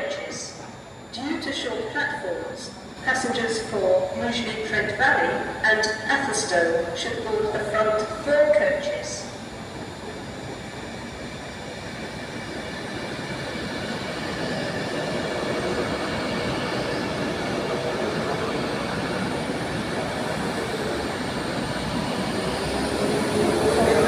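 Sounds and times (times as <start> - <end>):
faint high whine: 0.0 - 24.0
electric train running: 0.5 - 24.0.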